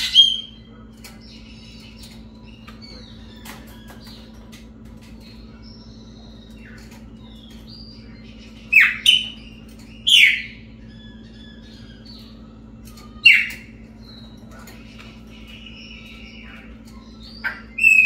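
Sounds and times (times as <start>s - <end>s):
loud sweeping bird calls: 0.0s - 18.0s.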